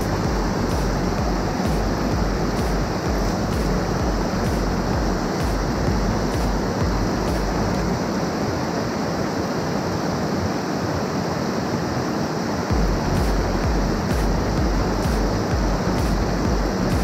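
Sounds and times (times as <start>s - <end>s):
stream pouring over a weir: 0.0s - 17.0s.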